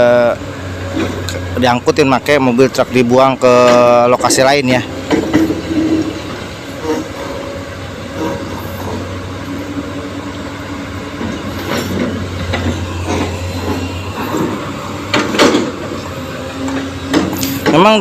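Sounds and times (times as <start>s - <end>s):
diesel machinery humming: 0.0s - 18.0s.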